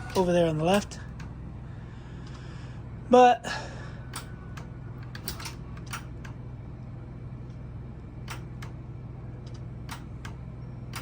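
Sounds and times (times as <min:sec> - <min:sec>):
low electric hum: 0:00.0 - 0:11.0.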